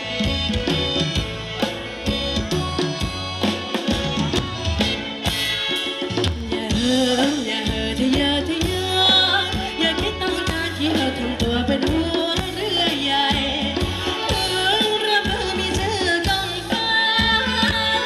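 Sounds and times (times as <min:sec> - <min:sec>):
dance band music: 0:00.0 - 0:18.0
drum kit beat: 0:00.0 - 0:18.0.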